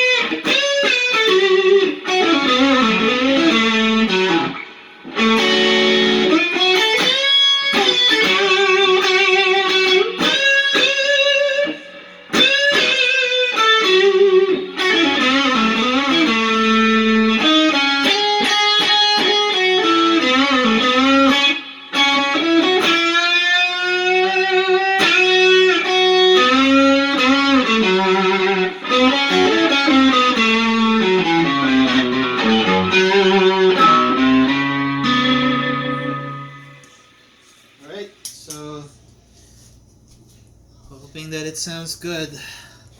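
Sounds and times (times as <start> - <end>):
overdriven electric guitar: 0.0 - 37.8.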